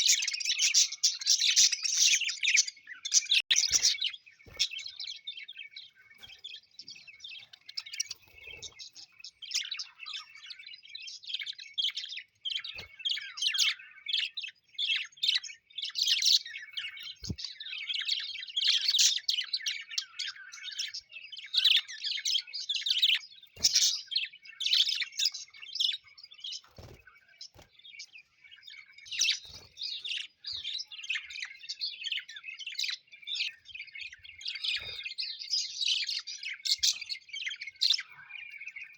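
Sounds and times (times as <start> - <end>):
parrots chirping and chattering: 0.0 - 38.9.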